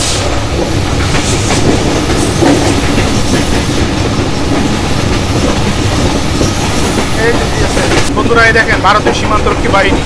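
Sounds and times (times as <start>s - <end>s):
train wheels rumbling on track: 0.0s - 10.0s
wheels clacking over rail joints: 0.4s - 10.0s.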